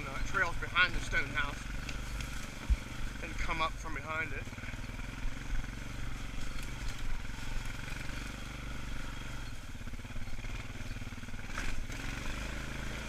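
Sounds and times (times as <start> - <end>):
atv engine droning: 0.0 - 13.0.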